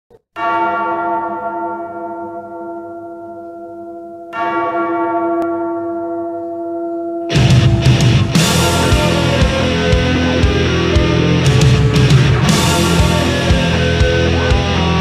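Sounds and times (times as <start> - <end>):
bell tolling: 0.4 - 15.0.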